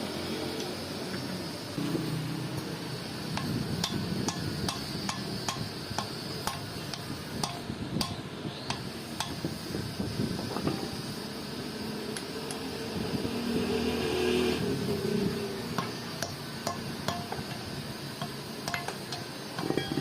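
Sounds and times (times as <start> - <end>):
low workshop hum: 0.0 - 20.0.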